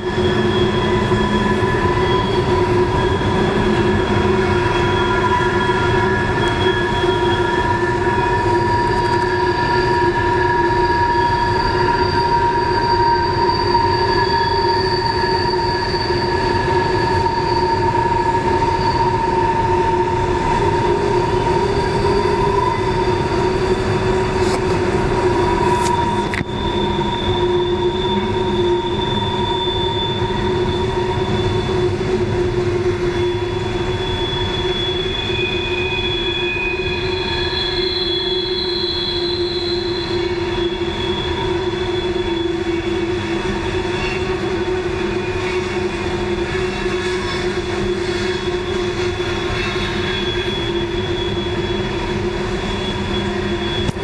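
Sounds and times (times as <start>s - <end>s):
low rumble of rolling train: 0.0s - 54.0s
train wheels squealing on rails: 0.0s - 54.0s.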